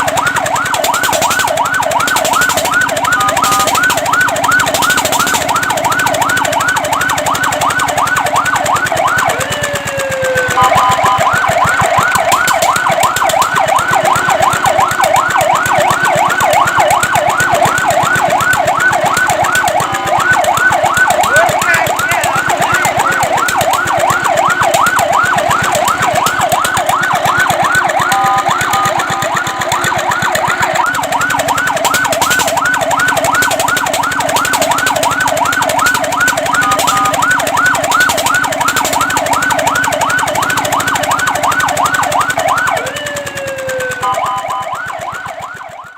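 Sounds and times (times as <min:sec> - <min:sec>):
fire truck siren yelp: 0:00.0 - 0:45.9
siren stuttering tone: 0:00.0 - 0:45.9.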